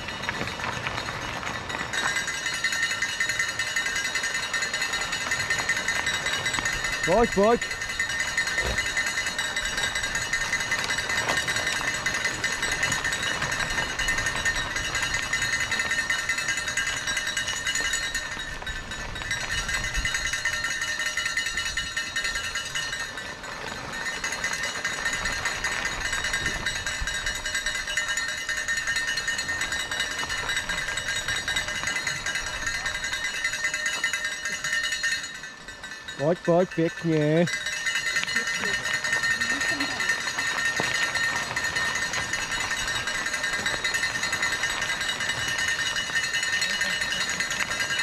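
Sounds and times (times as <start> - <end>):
cowbells ringing: 0.0 - 48.0.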